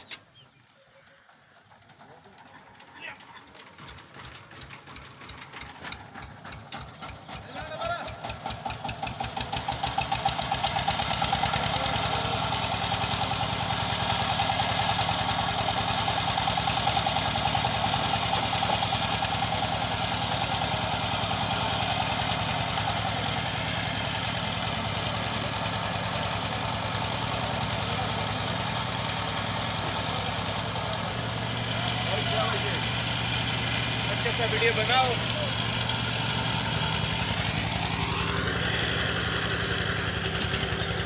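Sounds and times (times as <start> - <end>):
engine knocking beat: 1.7 - 41.0.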